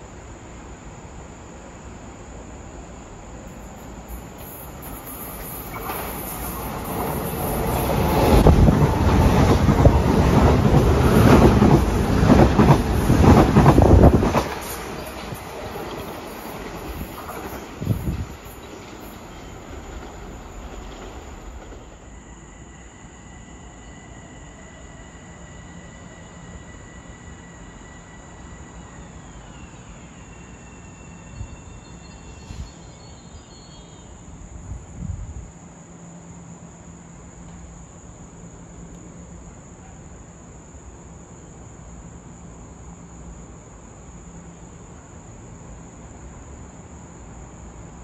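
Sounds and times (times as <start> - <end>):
insects chirping: 0.0 - 48.0
train whine: 0.0 - 48.0.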